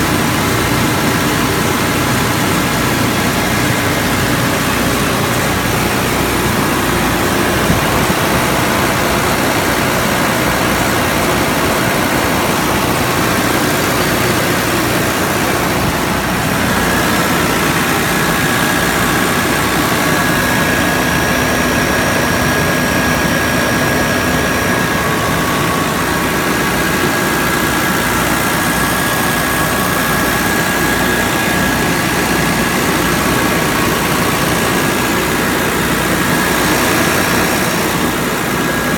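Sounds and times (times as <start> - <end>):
air-conditioning unit running: 0.0 - 38.9.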